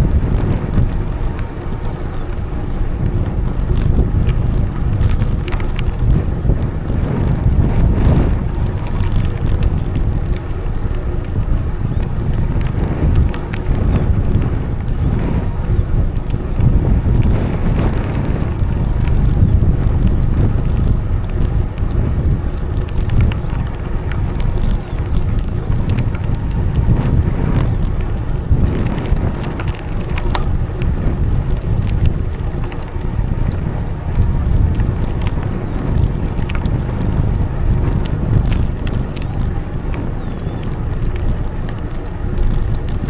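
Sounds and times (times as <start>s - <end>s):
bicycle tyres rumbling on path: 0.0s - 43.0s
sharp clicks from bumps: 0.0s - 43.0s
wind buffeting microphone: 0.0s - 43.0s.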